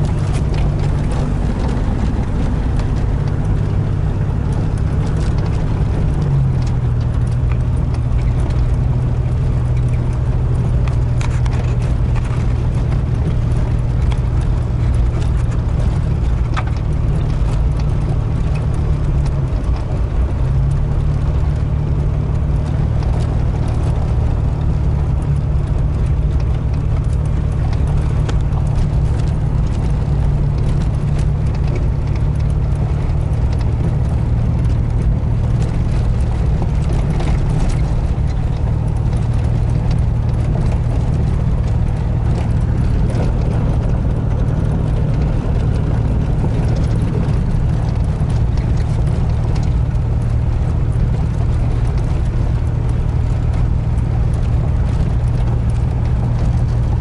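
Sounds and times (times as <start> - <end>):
vehicle engine hum: 0.0 - 57.0.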